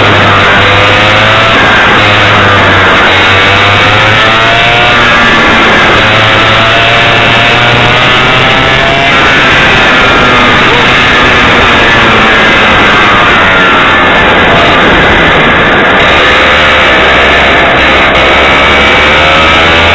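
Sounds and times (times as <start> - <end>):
distorted kart engine revving: 0.0 - 19.9.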